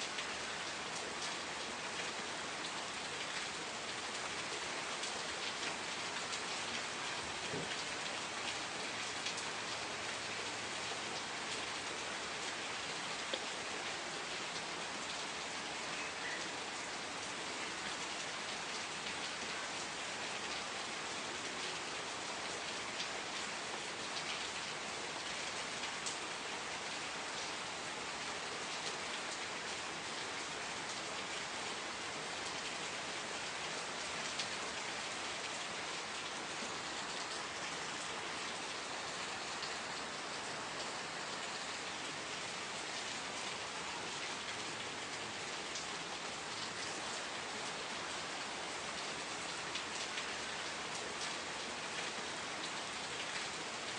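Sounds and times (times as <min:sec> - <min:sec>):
steady rain patter: 0:00.0 - 0:53.9.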